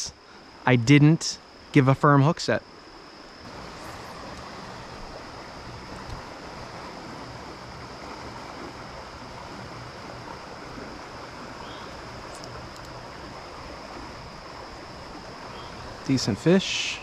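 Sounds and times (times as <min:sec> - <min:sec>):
river current rushing: 0:02.8 - 0:17.0.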